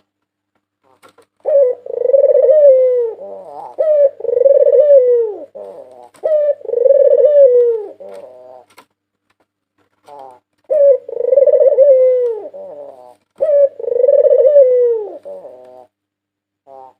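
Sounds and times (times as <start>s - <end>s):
dove cooing: 0.8s - 8.8s, 10.0s - 16.0s, 16.6s - 16.9s.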